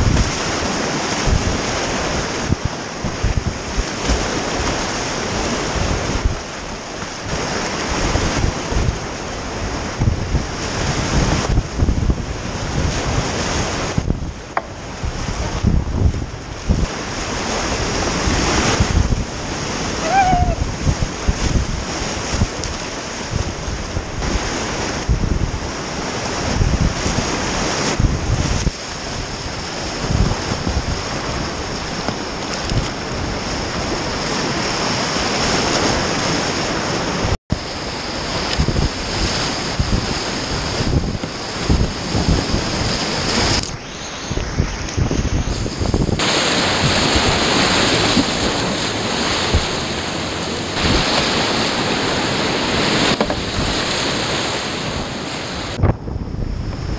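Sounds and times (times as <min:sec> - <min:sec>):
whitewater rushing and splashing: 0:00.0 - 0:55.9
wind rumble on microphone: 0:00.0 - 0:56.9.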